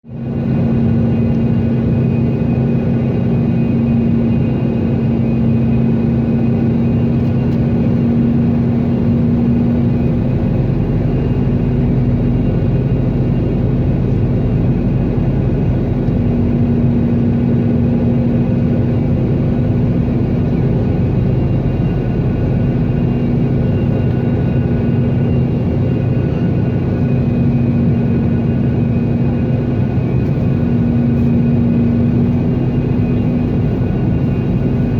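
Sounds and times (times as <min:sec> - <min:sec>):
engine drone: 0:00.1 - 0:34.9.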